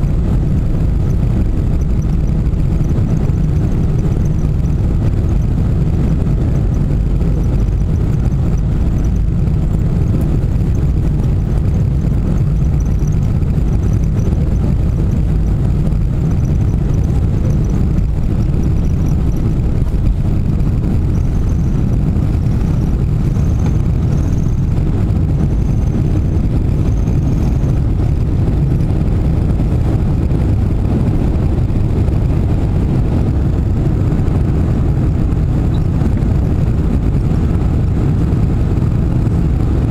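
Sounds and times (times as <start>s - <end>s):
jet engines and runway rumble: 0.0s - 39.9s.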